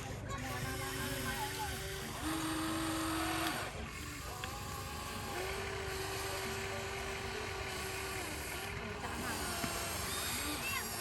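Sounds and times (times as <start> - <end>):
small electric motor whining: 0.0 - 11.0.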